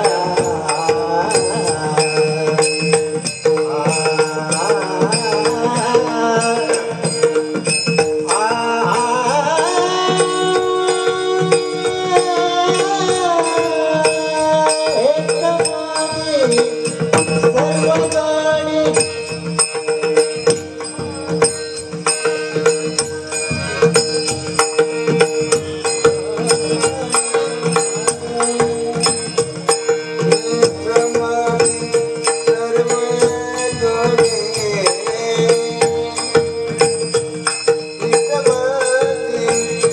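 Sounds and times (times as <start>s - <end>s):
tabla and percussion beat: 0.0s - 39.9s.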